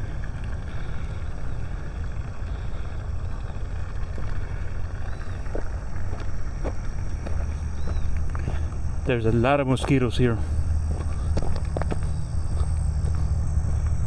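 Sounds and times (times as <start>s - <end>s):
water pump rumbling: 0.0s - 14.0s.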